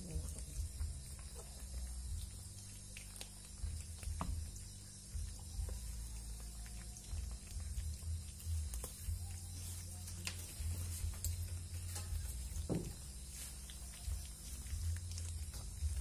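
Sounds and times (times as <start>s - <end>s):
cats chewing from plastic plate: 0.0s - 16.0s.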